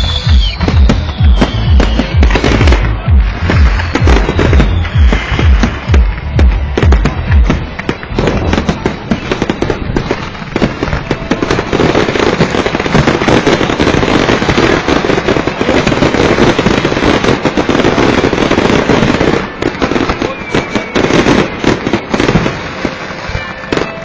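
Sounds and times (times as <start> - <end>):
deep firework booms: 0.0 - 23.0
firework bangs and crackles: 0.0 - 24.0.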